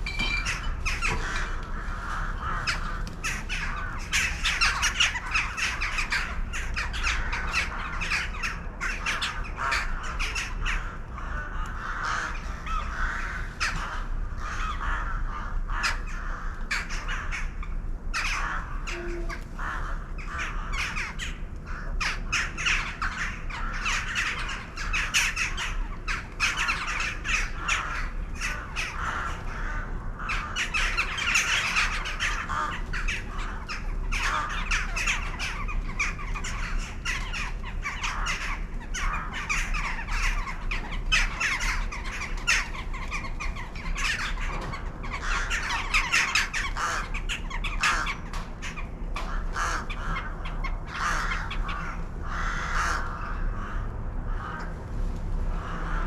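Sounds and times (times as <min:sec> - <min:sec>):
flock of birds calling harshly: 0:00.0 - 0:54.7.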